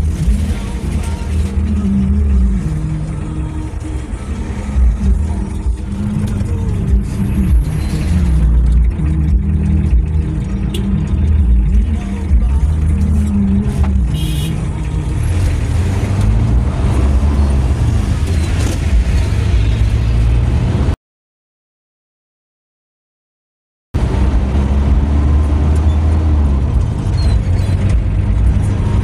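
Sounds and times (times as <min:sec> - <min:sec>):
vehicle engine and tyres rumbling: 0:00.0 - 0:21.0, 0:24.0 - 0:29.0.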